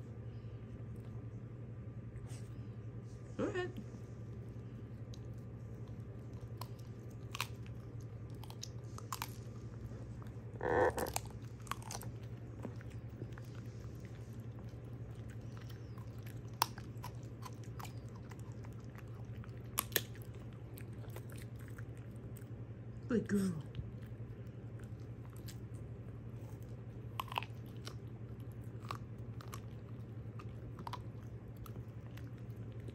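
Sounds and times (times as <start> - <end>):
steady low hum: 0.0 - 32.9
dog chewing and crunching: 4.1 - 32.9.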